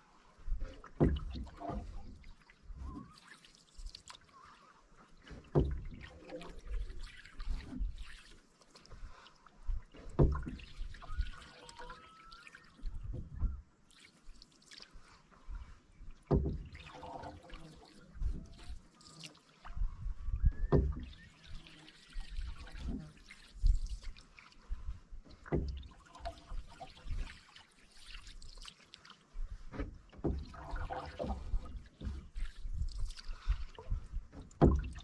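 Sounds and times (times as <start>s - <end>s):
canoe paddle strokes in water: 0.0s - 35.0s
water dripping off paddle: 0.8s - 19.8s, 20.7s - 35.0s.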